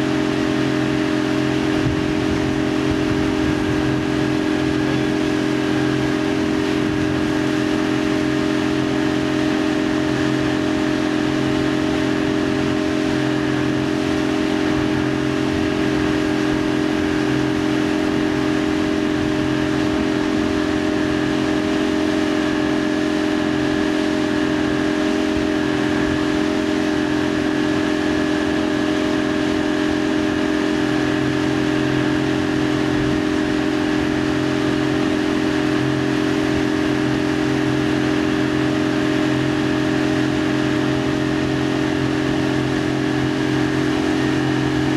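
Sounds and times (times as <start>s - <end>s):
motorboat engine drone: 0.0s - 44.9s
wind: 0.0s - 44.9s.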